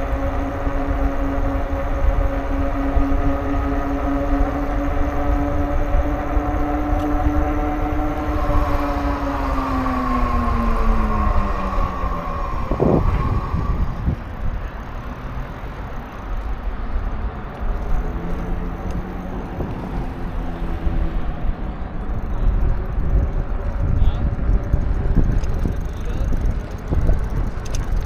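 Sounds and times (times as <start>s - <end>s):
motor vehicle passing: 0.0s - 28.0s
wind and road noise rumble: 0.0s - 28.0s.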